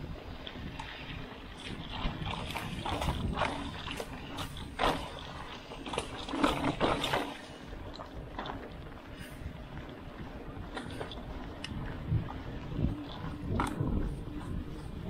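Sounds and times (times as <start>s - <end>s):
bicycle rattling on rough trail: 0.0s - 15.0s
steady rushing noise: 0.0s - 15.0s.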